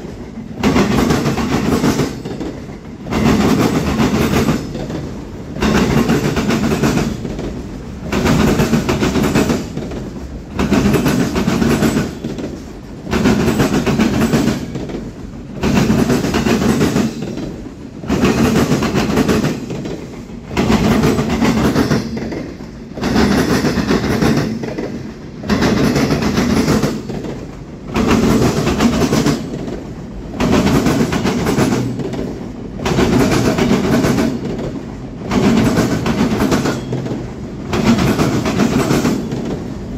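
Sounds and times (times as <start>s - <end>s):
train cars clattering on rails: 0.0s - 39.9s.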